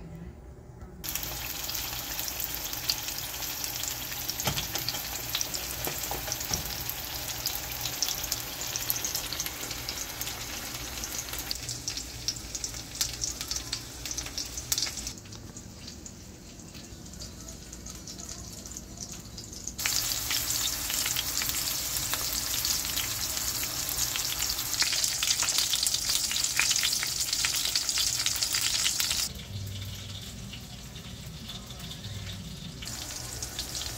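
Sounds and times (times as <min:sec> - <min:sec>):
fish sizzling in a frying pan: 0:01.0 - 0:33.9.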